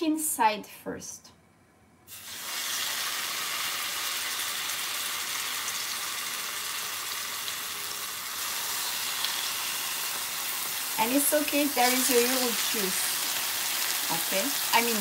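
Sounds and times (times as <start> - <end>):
chicken sizzling in hot oil: 2.1 - 15.0.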